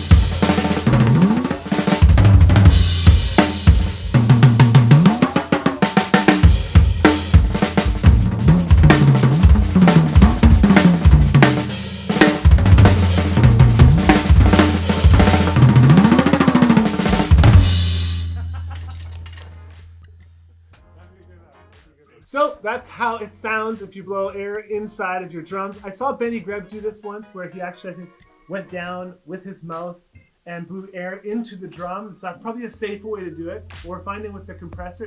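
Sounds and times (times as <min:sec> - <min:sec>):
drum kit with pitch-bending toms: 0:00.0 - 0:27.6, 0:31.2 - 0:35.0.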